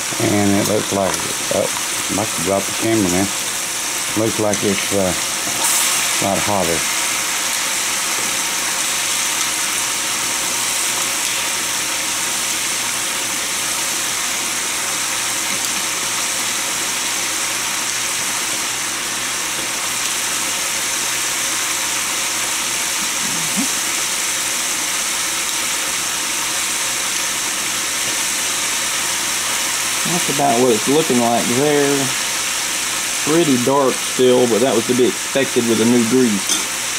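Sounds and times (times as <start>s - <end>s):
chicken frying in hot oil: 0.0s - 36.9s.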